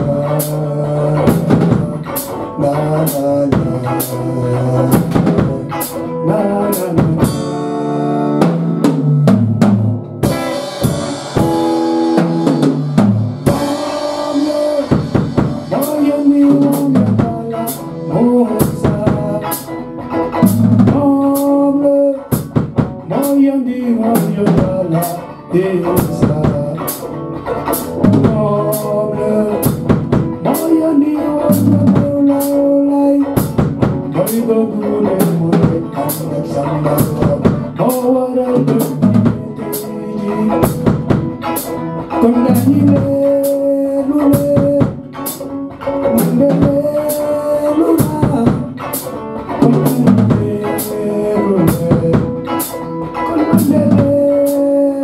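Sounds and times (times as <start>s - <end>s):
drum kit steady beat: 0.0s - 55.0s
electric guitar sustained notes: 0.0s - 55.0s.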